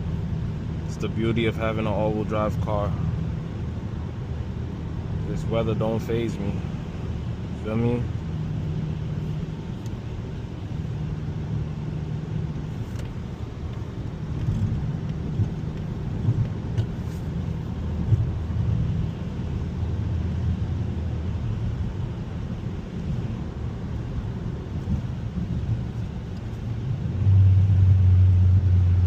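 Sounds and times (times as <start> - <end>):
engine and tyres rumbling: 0.0 - 29.0.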